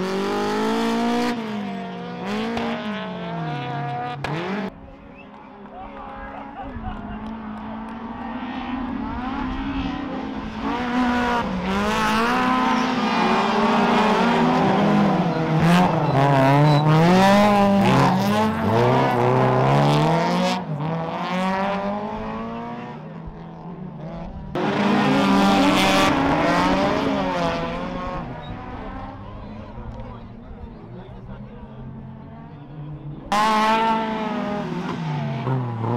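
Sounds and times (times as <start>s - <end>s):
race car engines revving: 0.0s - 35.9s.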